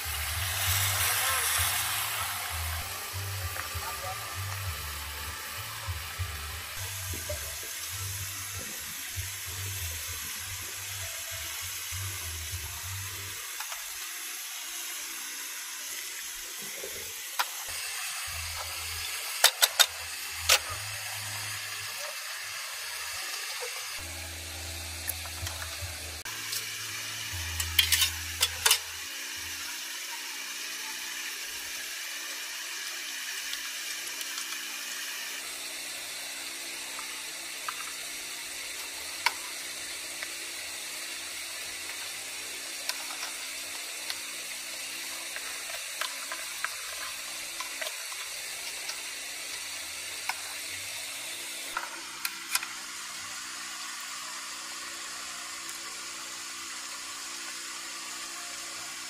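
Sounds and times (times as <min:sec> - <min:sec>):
food hissing in a pan: 0:00.0 - 0:59.0.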